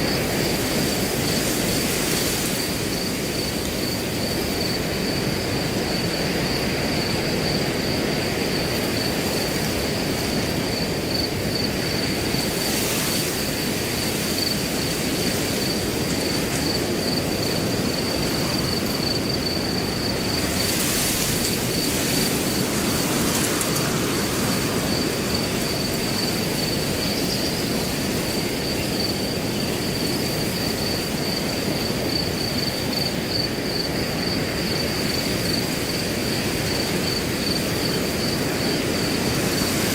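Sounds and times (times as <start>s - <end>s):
cricket chirping: 0.0s - 39.9s
wind blowing through grass: 0.0s - 39.9s.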